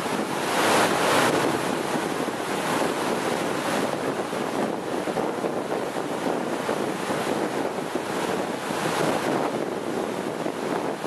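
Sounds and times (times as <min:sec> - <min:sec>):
waves washing: 0:00.0 - 0:11.0
wind rushing on microphone: 0:00.0 - 0:11.0.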